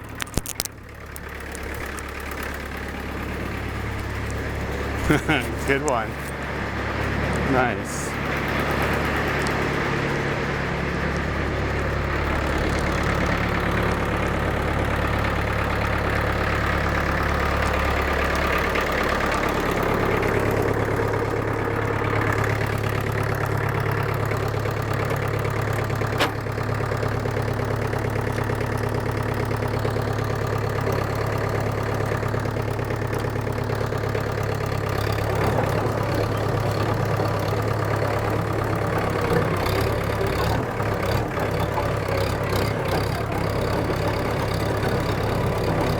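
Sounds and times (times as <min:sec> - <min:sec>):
bulldozer engine running: 0:00.0 - 0:45.9.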